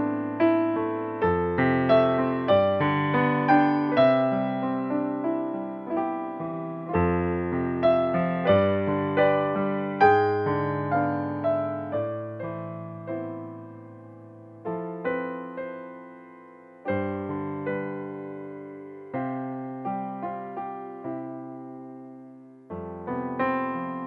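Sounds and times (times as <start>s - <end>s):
solo piano: 0.0s - 24.0s.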